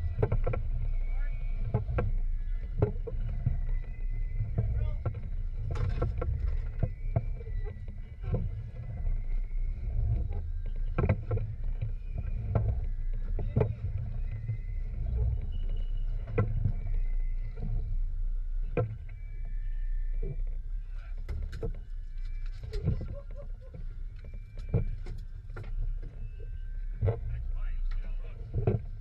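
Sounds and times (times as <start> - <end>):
sharp knocks and clicks: 0.0 - 9.2, 9.8 - 17.9, 20.2 - 26.2, 26.9 - 29.0
wind and water against hull: 0.0 - 29.0.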